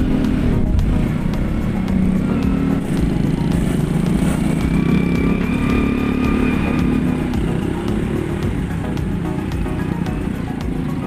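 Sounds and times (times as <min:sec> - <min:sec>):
motorcycle engine running: 0:00.0 - 0:11.0
thin high tone: 0:00.0 - 0:11.0.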